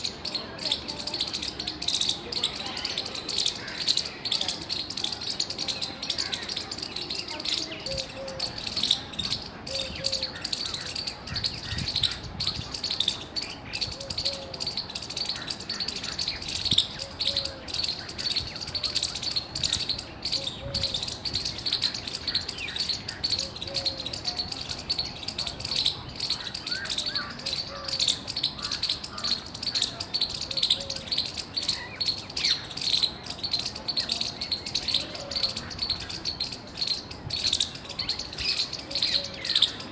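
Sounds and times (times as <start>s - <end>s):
squirrel chirping: 0.0s - 39.9s.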